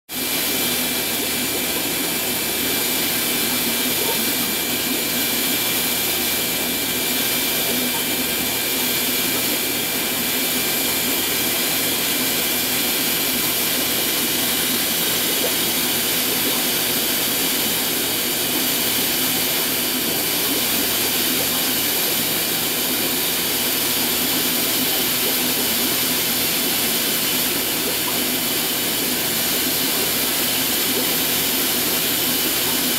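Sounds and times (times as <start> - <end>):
aquarium equipment hissing: 0.1 - 32.9.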